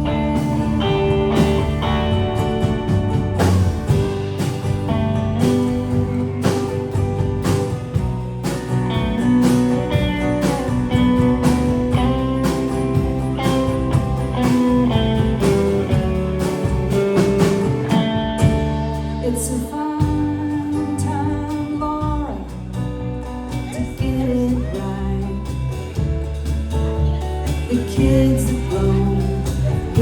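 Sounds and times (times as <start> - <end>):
blues band playing: 0.0 - 30.0.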